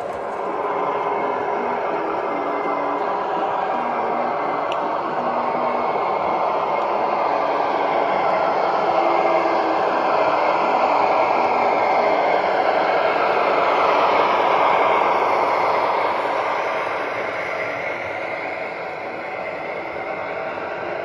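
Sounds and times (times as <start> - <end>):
model train wheels rolling on rails: 0.0 - 21.0.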